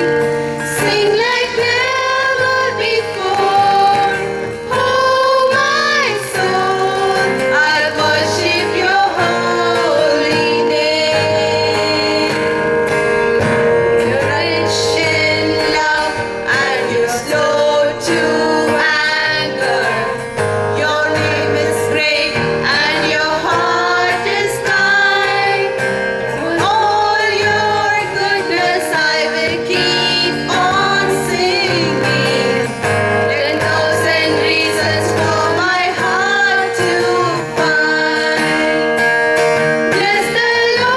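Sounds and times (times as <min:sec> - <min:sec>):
choir singing: 0:00.0 - 0:12.6, 0:13.4 - 0:40.9
instrumental accompaniment: 0:00.0 - 0:40.9.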